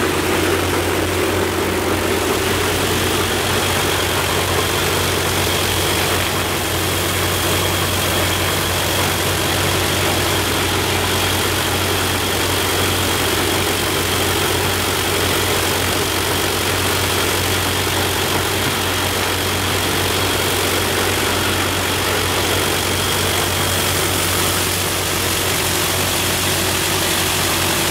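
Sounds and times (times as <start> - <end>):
radial aircraft engine drone: 0.0 - 27.9.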